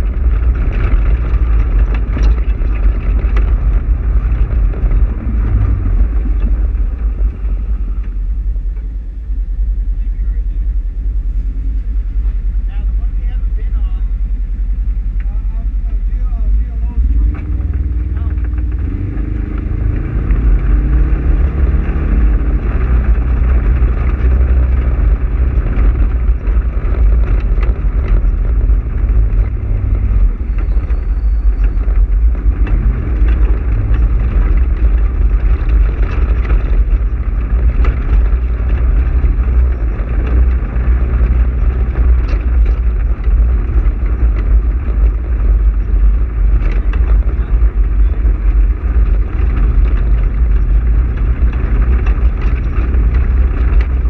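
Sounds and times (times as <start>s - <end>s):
knocks and rattles from bumps: 0.0s - 9.2s, 11.7s - 54.0s
vehicle engine rumbling: 0.0s - 54.0s.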